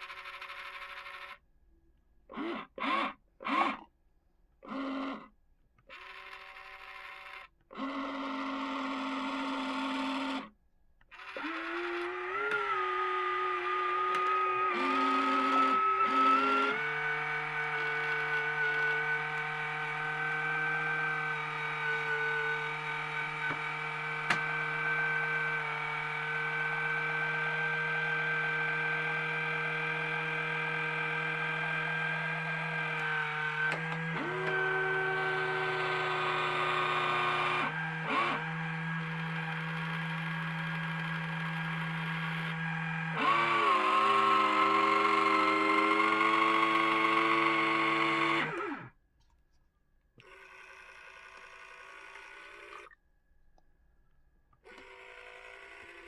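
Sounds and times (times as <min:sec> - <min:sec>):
electric gear motors whirring: 0:04.6 - 0:05.3, 0:05.9 - 0:10.5, 0:11.1 - 0:49.0, 0:50.2 - 0:53.0, 0:54.6 - 0:56.0.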